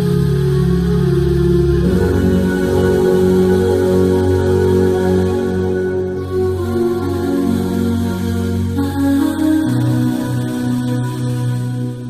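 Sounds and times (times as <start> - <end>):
slow music with held notes: 0.0 - 12.0.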